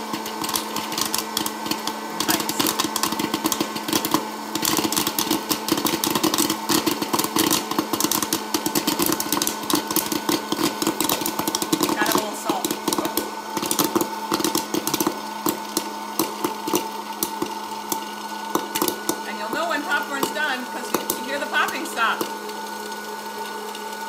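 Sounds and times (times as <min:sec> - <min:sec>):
popcorn hitting metal bowl: 0:00.0 - 0:22.7
popcorn kernels popping: 0:00.0 - 0:24.0
popcorn popper fan humming: 0:00.0 - 0:24.0.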